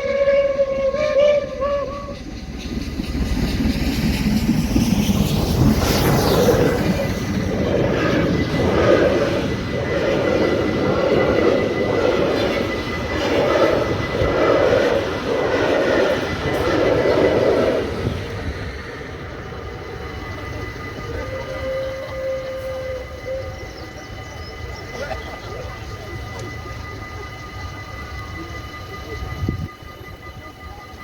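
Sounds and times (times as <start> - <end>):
train passing: 0.0 - 31.0.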